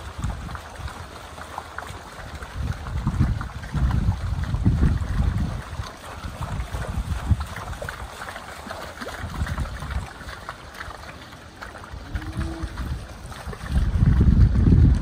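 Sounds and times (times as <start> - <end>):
hooves splashing in mud: 0.0 - 15.0.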